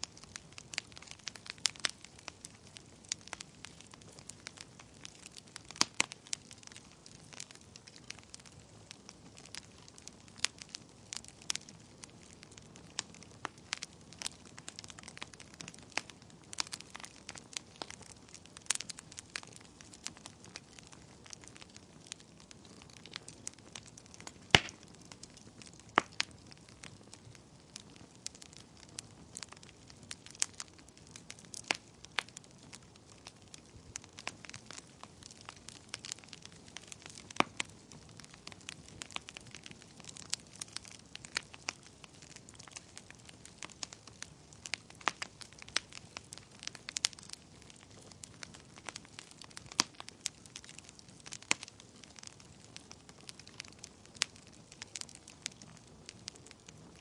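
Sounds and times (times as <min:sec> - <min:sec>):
soft hiss of burning: 0:00.0 - 0:57.0
wood fire crackling: 0:00.0 - 0:57.0.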